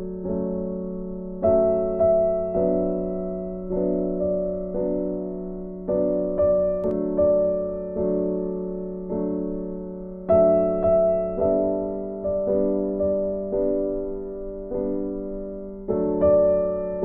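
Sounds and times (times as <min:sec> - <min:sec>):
gentle piano chords: 0:00.0 - 0:17.0.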